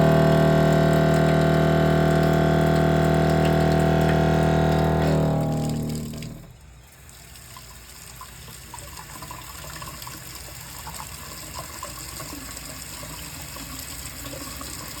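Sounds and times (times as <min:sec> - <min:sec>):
water running from faucet: 0:00.0 - 0:15.0.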